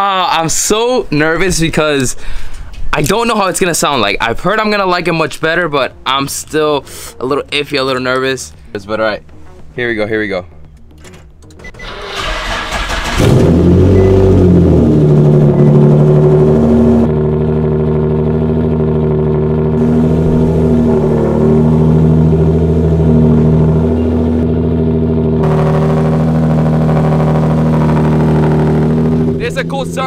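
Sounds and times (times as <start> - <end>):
car engine starting and idling: 0.3 - 30.0.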